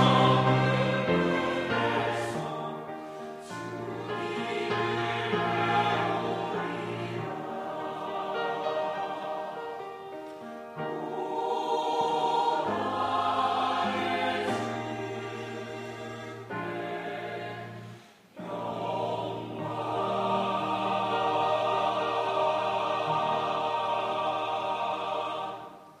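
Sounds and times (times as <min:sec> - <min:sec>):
choir singing with accompaniment: 0:00.0 - 0:26.0.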